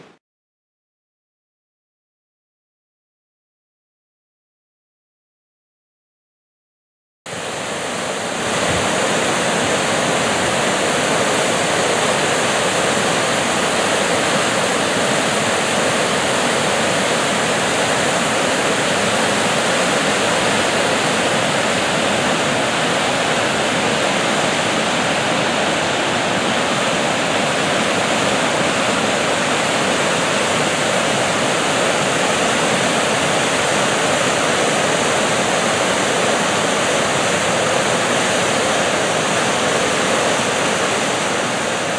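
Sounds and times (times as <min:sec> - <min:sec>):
water rushing over rocks: 0:07.3 - 0:41.9.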